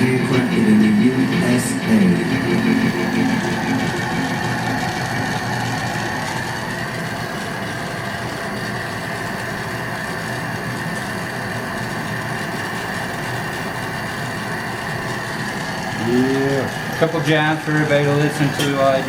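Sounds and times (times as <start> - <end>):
steady torch roar: 0.0 - 17.5.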